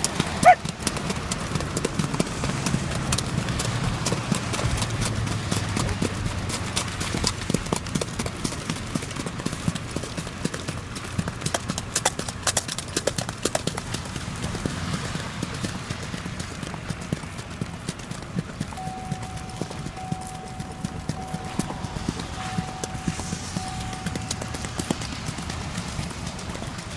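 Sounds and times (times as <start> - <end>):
car rumbling: 0.0 - 26.9
horse hoofbeats clip-clop: 0.0 - 26.9.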